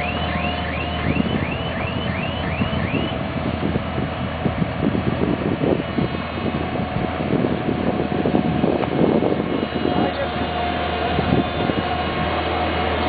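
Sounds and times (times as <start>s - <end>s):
grader engine running: 0.0s - 13.0s.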